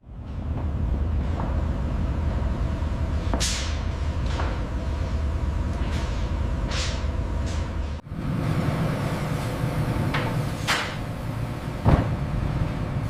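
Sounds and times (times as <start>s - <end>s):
furnace rumbling: 0.0s - 13.0s.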